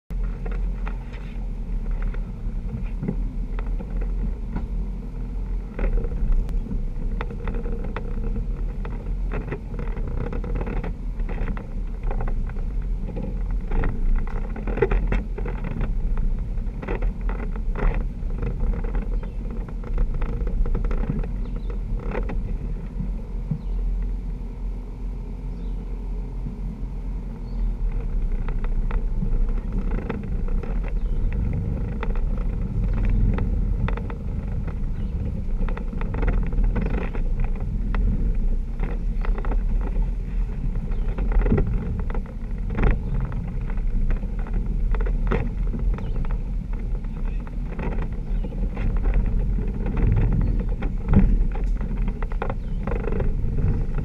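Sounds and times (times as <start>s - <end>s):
vehicle engine low rumble: 0.0s - 54.0s
knocks and rattles over rocks: 0.1s - 24.1s, 27.4s - 54.0s.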